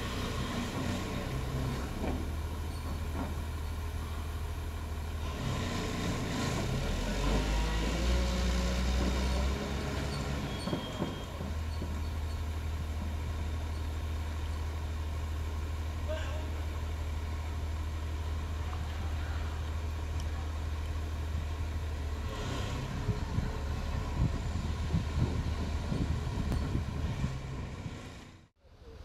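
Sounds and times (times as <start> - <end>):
excavator diesel engine running: 0.0 - 28.5.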